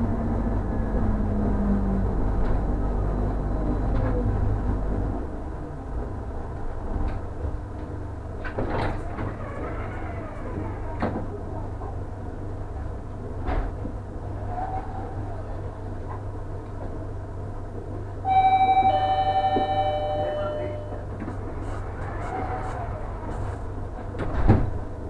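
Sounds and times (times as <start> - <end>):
tram running rumble: 0.0 - 25.0.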